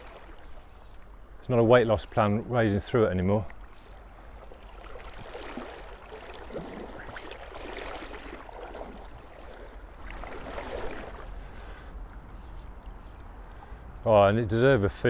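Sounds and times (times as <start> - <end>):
small water splashes: 0.0 - 1.2, 2.6 - 13.9
river water gurgling: 0.0 - 1.5, 2.1 - 14.1.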